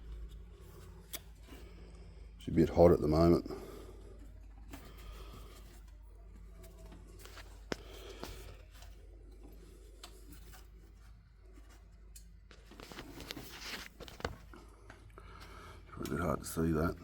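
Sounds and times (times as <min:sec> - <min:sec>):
rubbing and scraping handling noises: 0:00.0 - 0:17.0.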